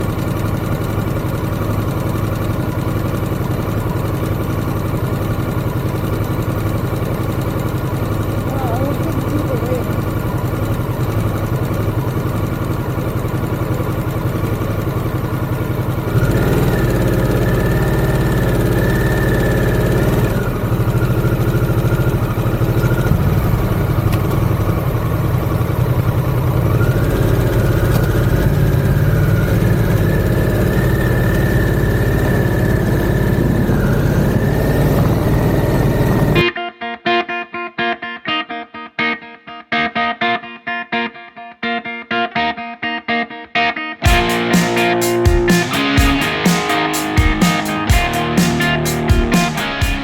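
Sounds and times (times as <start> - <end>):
motorcycle engine running: 0.0 - 36.4, 44.0 - 50.0.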